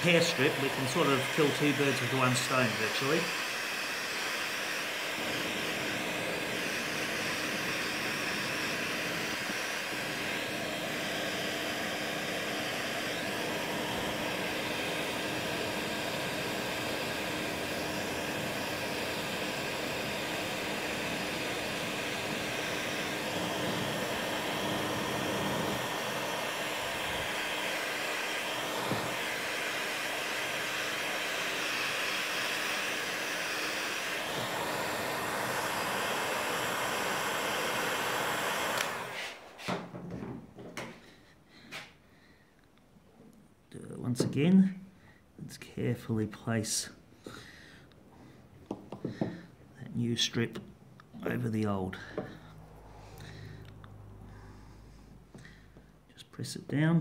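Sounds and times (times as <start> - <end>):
heat gun blowing: 0.0 - 40.0, 46.7 - 49.6, 51.1 - 56.1.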